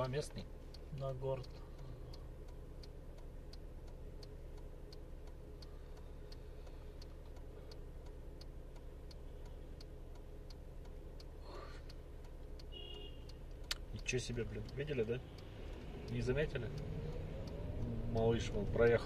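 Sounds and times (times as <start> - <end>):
car engine idling: 0.0 - 19.0
turn signal ticking: 0.0 - 19.0.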